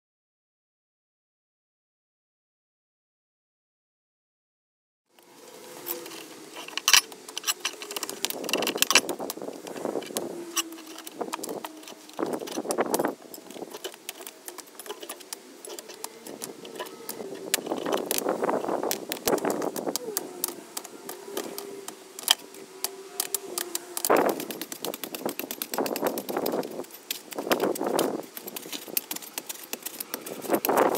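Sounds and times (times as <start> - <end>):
spade scraping soil and gravel: 5.2 - 30.9.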